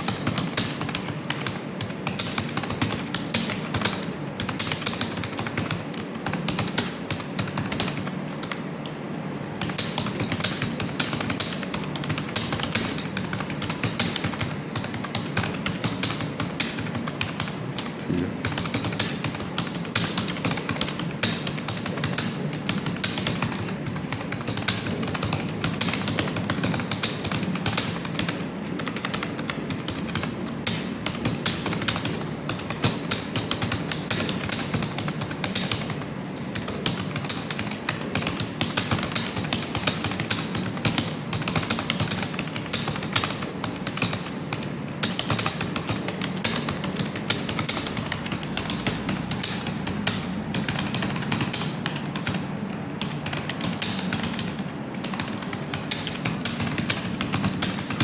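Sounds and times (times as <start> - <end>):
fast typing on keyboard: 0.0 - 58.0.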